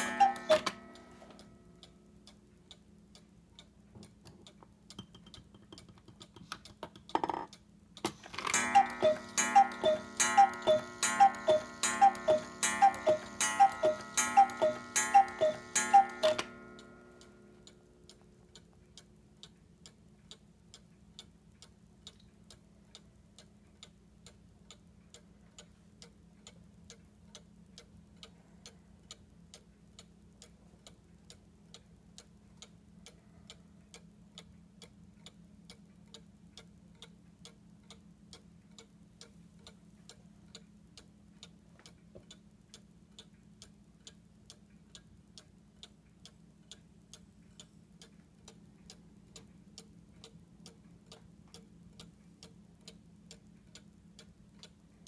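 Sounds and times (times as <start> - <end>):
clock ticking faintly: 0.0 - 55.0.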